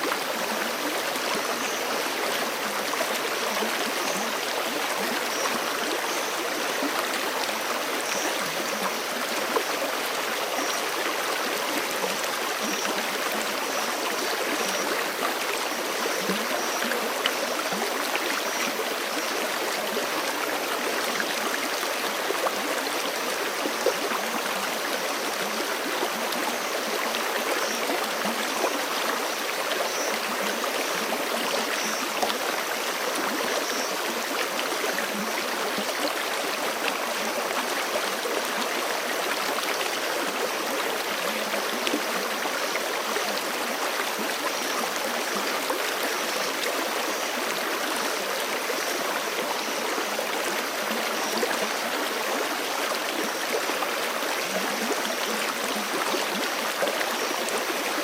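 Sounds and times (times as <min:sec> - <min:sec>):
creek water flowing: 0:00.0 - 0:58.0.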